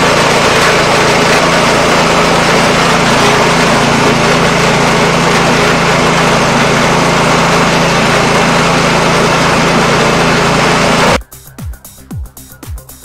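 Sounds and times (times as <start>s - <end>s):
snowblower engine running: 0.0s - 11.2s.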